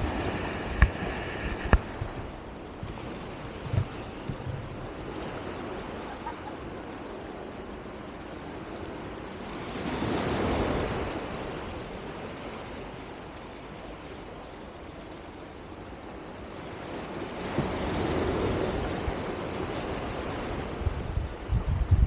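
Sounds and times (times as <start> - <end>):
sea washing against shore: 0.0 - 22.0
wind: 0.0 - 22.0.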